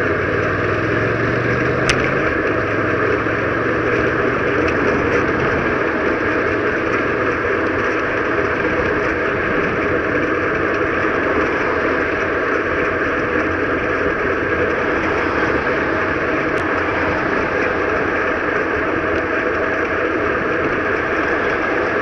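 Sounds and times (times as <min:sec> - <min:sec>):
bicycle road noise: 0:00.0 - 0:22.0
car traffic passing: 0:00.0 - 0:22.0.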